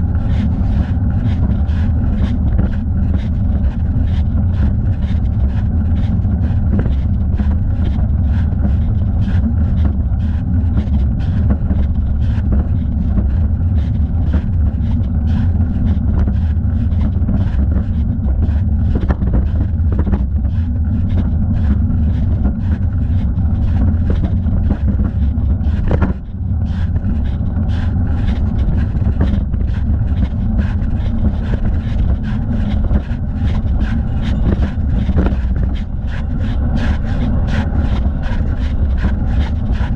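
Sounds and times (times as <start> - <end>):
wind and road rumble: 0.0 - 39.9.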